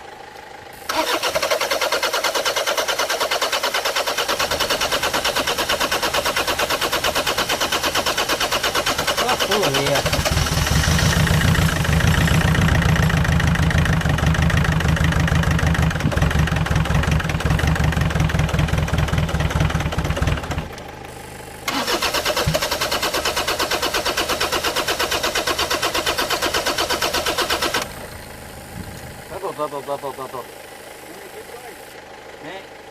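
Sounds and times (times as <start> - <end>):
diesel engine cranking on starter: 0.3 - 32.4.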